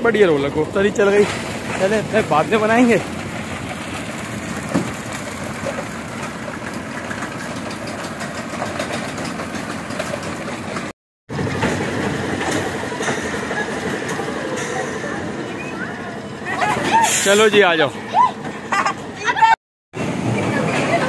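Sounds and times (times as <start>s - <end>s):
roller coaster running on steel track: 0.0s - 21.0s.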